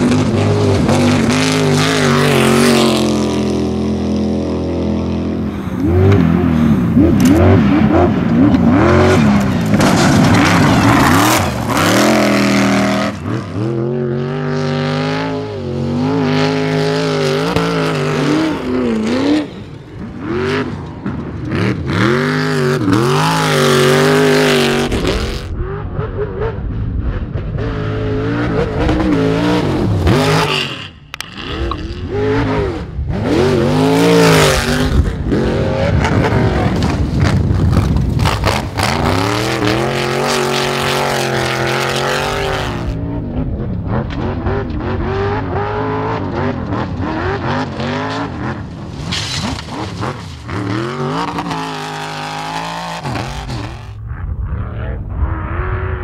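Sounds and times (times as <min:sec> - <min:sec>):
buggy engine revving hard: 0:00.0 - 0:26.6, 0:27.6 - 0:54.0.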